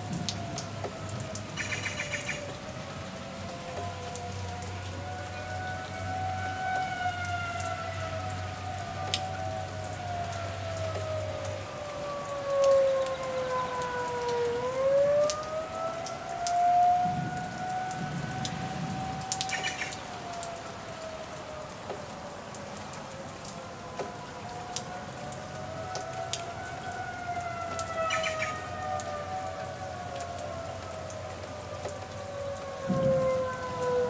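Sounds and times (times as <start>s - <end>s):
rain falling on trees: 0.0s - 34.0s
warning siren wailing: 0.0s - 34.0s.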